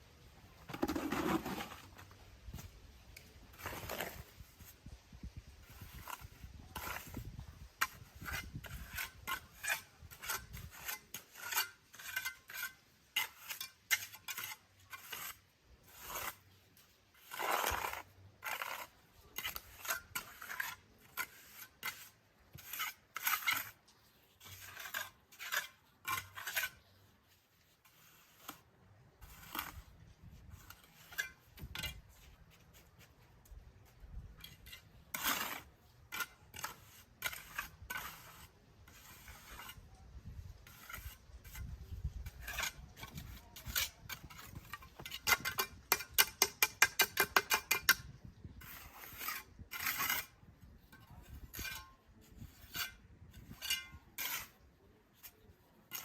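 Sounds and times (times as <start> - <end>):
hand tool scraping rough surface: 0.5 - 56.0.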